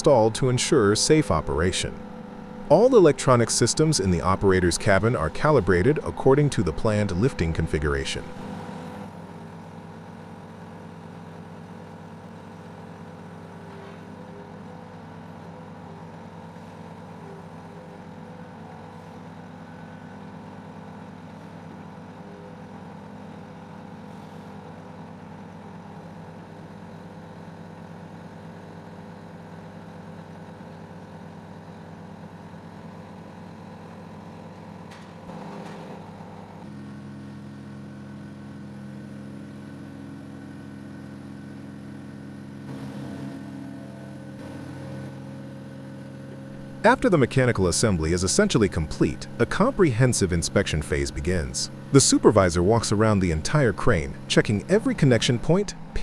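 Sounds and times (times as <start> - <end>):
large engine idling: 0.0 - 56.0.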